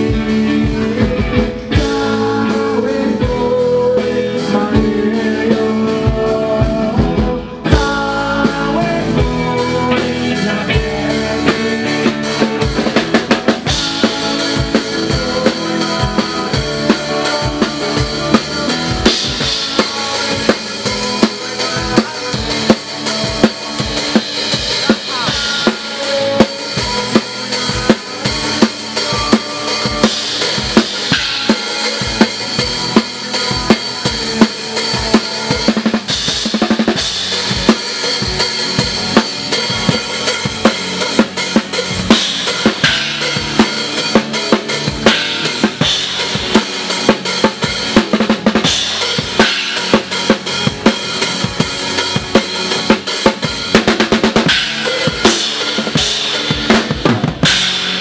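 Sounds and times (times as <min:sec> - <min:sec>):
drum kit beat: 0:00.0 - 0:58.0
live rock band playing: 0:00.0 - 0:58.0.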